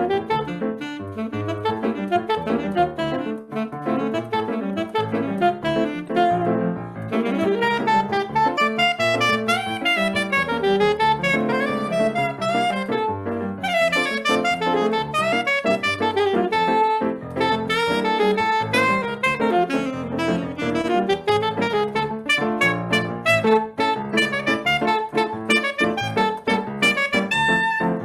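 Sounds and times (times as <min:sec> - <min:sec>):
saxophone fast melodic runs: 0:00.0 - 0:28.0.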